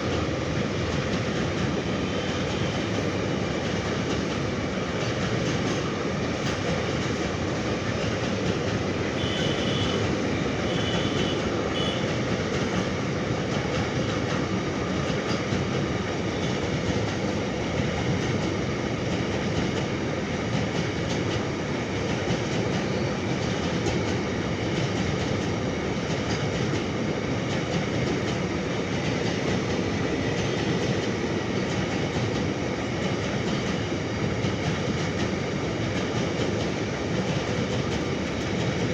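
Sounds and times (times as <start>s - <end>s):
steel wheels rolling on rail: 0.0s - 38.9s.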